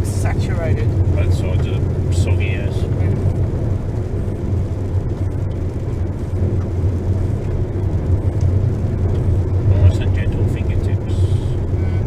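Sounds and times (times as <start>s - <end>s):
vehicle rumble on dirt road: 0.0s - 12.0s.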